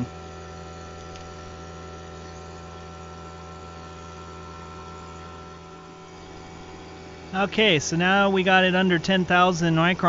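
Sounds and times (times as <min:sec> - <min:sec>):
vacuum pump humming: 0:00.0 - 0:10.0.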